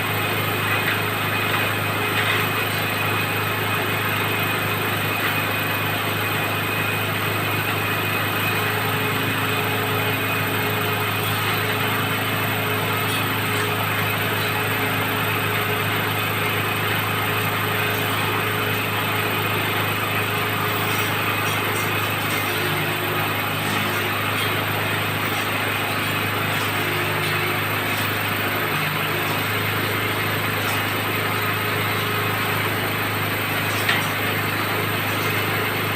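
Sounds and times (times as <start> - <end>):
drilling machine engine running: 0.0 - 35.9.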